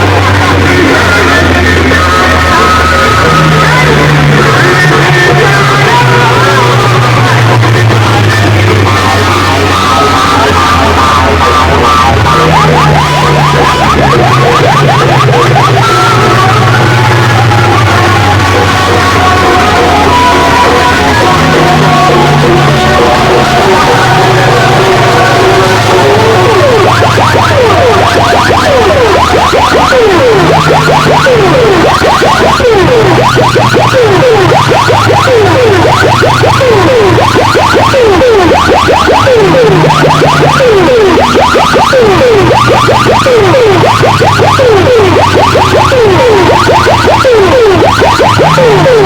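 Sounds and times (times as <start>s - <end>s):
heavy sustained bass notes: 0.0s - 49.0s
loud music through speakers: 0.0s - 49.0s
wavering melody: 0.0s - 49.0s.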